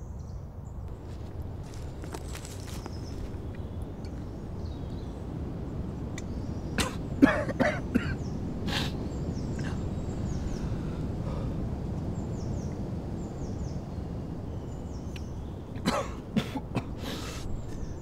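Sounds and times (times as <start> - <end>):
low outdoor rumble: 0.6 - 18.0.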